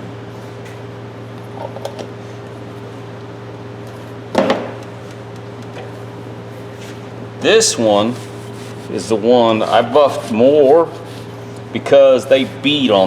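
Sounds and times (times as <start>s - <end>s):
machinery humming: 2.2s - 13.0s.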